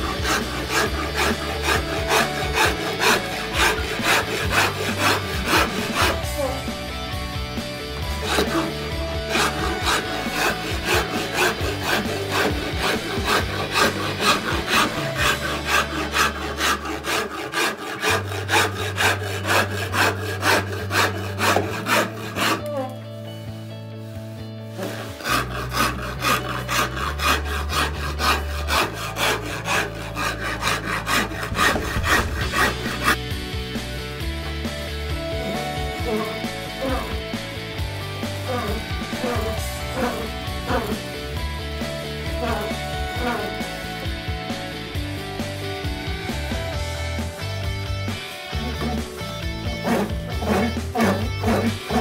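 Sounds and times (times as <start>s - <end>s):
background music with bass: 0.0s - 52.0s
rasp scraping wood: 0.0s - 52.0s.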